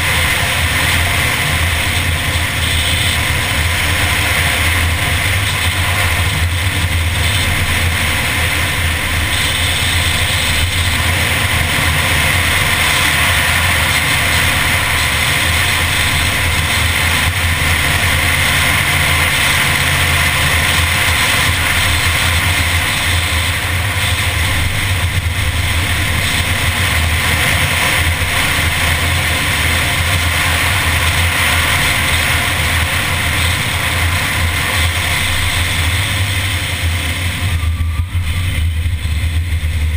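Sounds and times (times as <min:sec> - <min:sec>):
car engine droning: 0:00.0 - 0:39.9
road noise: 0:00.0 - 0:39.9
wind noise: 0:00.0 - 0:39.9.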